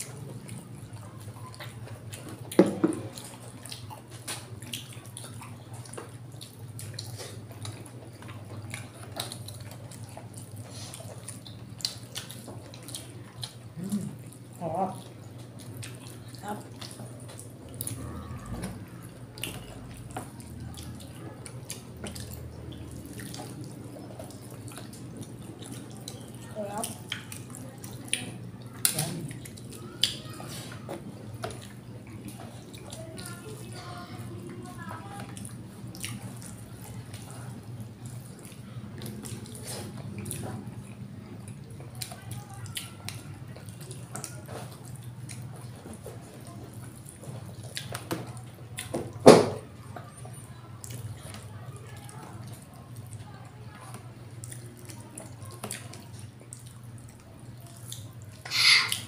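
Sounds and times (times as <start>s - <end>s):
people chewing and lip-smacking: 0.0s - 59.0s.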